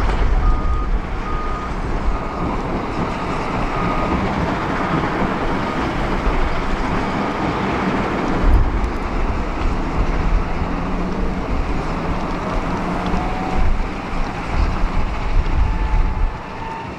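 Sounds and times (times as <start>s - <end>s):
excavator engine rumbling: 0.0s - 16.9s.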